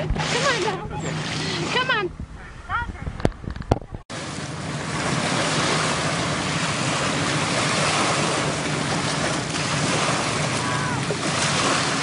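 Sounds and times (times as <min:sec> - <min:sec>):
waves washing onto shore: 0:00.0 - 0:01.9, 0:04.1 - 0:12.0.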